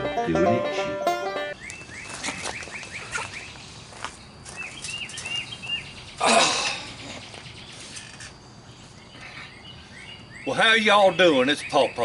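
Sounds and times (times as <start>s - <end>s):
bird chirping: 1.5s - 12.0s.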